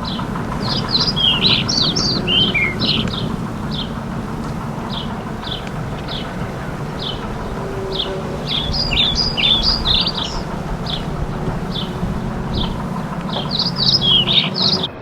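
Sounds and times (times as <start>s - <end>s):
songbird chirping and warbling: 0.0s - 15.0s
steady low hum: 0.0s - 15.0s.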